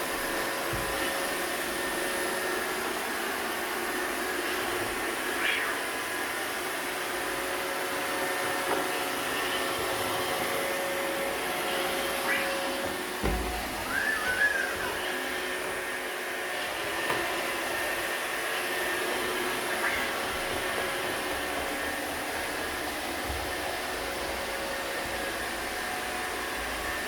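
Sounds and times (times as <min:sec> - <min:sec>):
robot vacuum whirring: 0:00.0 - 0:27.0.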